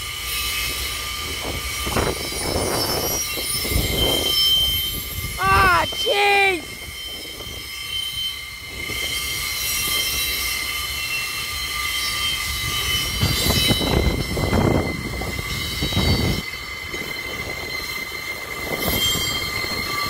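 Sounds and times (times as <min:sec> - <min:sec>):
wagon wheels squealing: 0:00.1 - 0:20.0.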